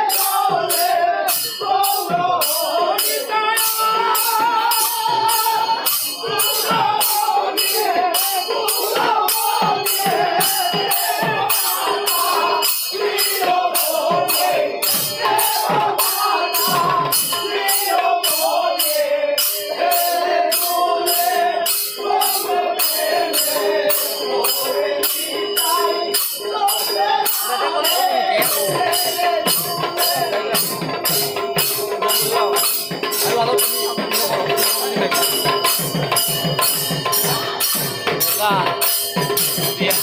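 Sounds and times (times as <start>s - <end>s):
hand cymbals: 0.0s - 40.0s
voices singing: 0.0s - 40.0s
barrel drum: 3.4s - 18.8s, 22.1s - 40.0s.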